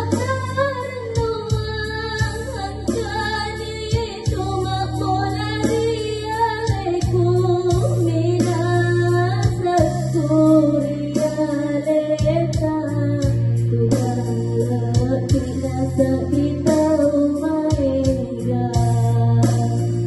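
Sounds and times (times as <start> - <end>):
girl singing into microphone: 0.0 - 20.0
low bass: 0.0 - 20.0.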